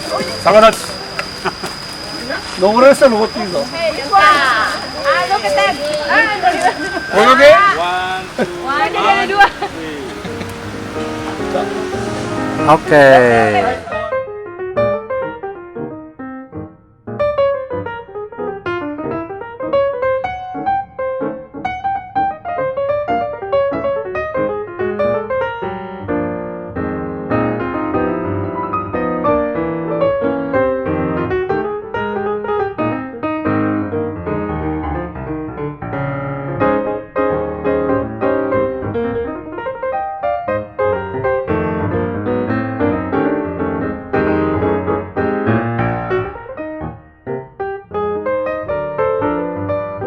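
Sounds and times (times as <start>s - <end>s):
piano background music: 5.0s - 50.0s.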